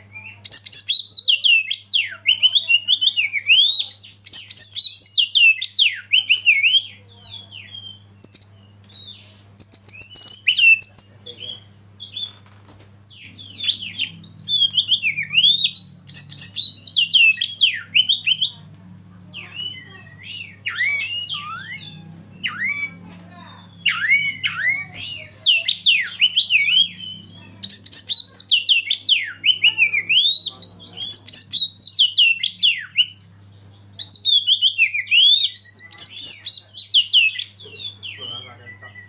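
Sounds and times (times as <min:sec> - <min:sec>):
bird singing whistles and chirps: 0:00.1 - 0:12.4, 0:13.1 - 0:18.6, 0:19.3 - 0:39.0.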